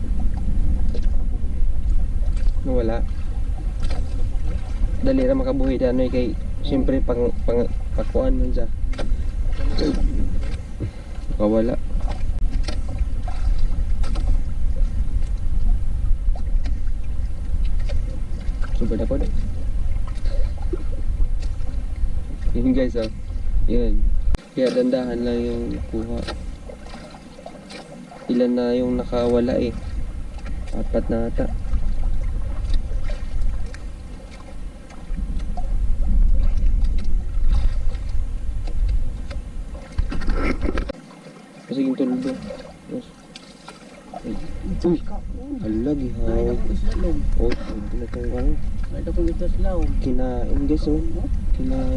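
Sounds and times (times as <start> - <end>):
boat engine rumble: 0.0 - 51.9.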